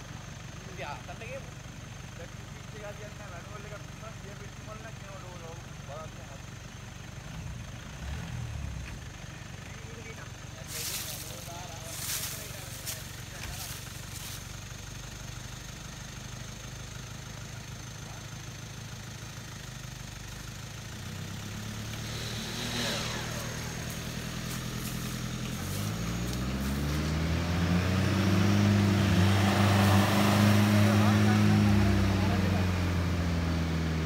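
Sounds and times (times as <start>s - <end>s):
vehicle engine idling and revving: 0.0s - 34.0s.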